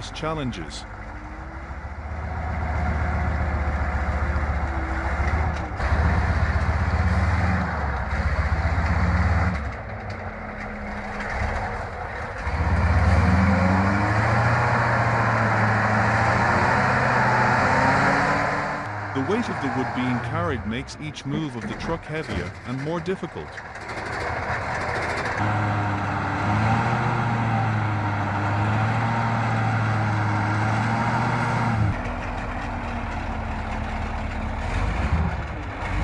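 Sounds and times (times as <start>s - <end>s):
truck engine labouring and revving: 0.0s - 36.0s.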